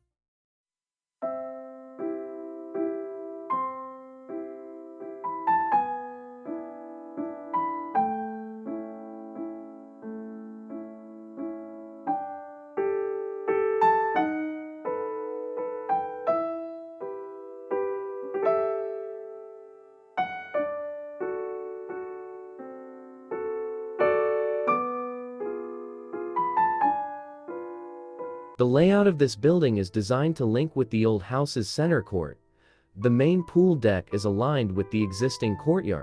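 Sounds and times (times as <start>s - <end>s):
gentle piano playing: 1.2s - 36.0s.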